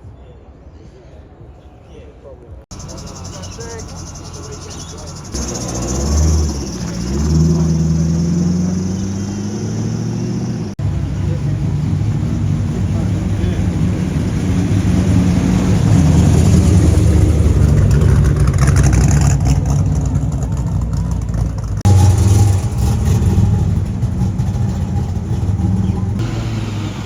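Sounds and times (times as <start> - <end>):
car engines rumbling: 2.6 - 27.0.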